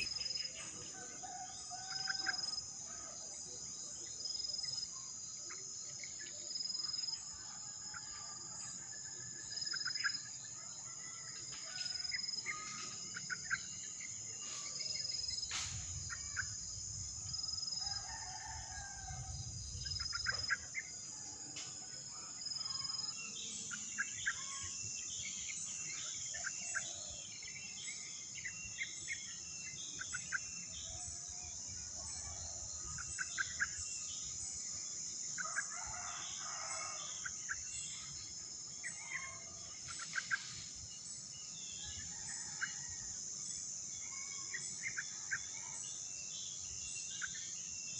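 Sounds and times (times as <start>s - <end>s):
insect chorus trilling: 0.0s - 47.9s.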